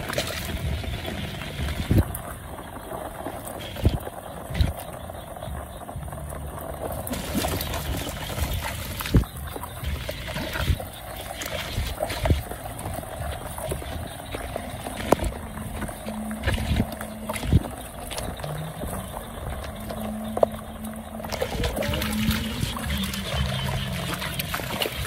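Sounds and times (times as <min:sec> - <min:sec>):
footsteps splashing through water and mud: 0:00.0 - 0:25.0.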